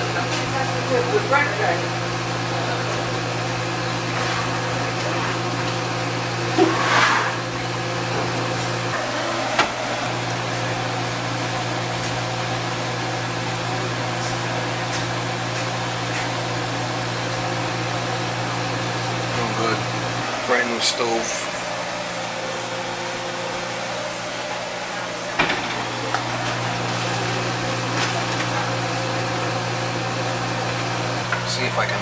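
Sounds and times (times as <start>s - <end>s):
motor humming: 0.0s - 32.0s.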